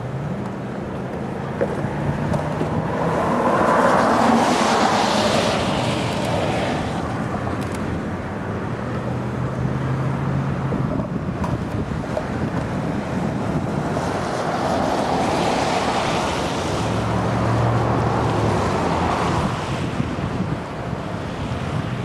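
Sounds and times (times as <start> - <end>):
rush of noise: 0.0 - 22.0
vehicle engine hum: 0.0 - 22.0.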